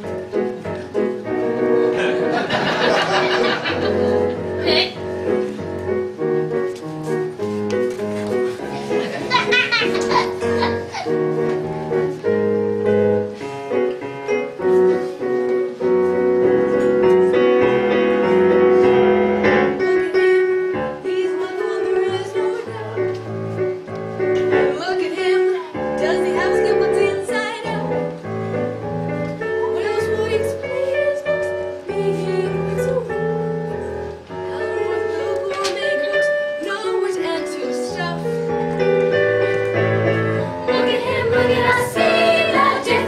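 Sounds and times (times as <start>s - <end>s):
piano playing held chords: 0.0s - 43.0s.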